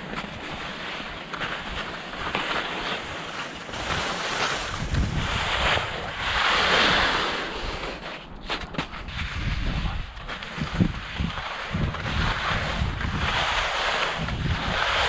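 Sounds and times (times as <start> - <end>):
skis scraping over slushy snow: 0.0 - 15.0
wind rumble on microphone: 0.0 - 15.0.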